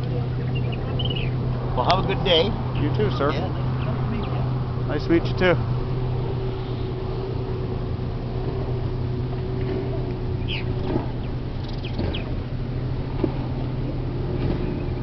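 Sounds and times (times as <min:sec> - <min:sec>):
ship engines droning: 0:00.0 - 0:15.0.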